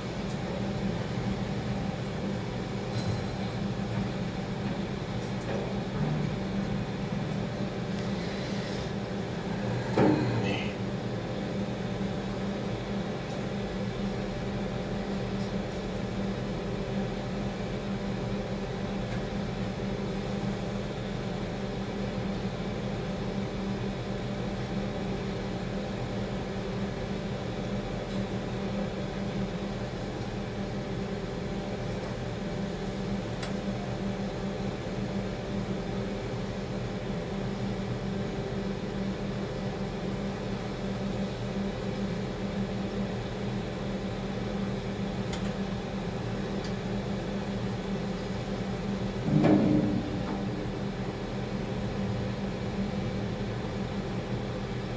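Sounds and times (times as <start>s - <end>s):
crane cab machine hum: 0.0s - 54.9s.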